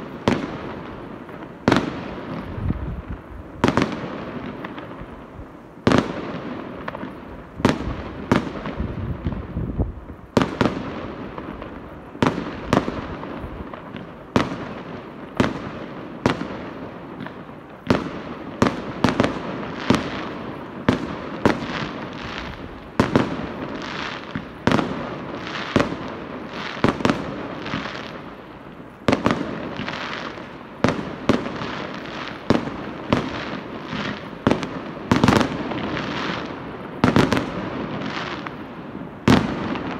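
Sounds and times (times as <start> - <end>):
fireworks bursting: 0.0 - 39.9
fireworks crackle: 0.0 - 39.9.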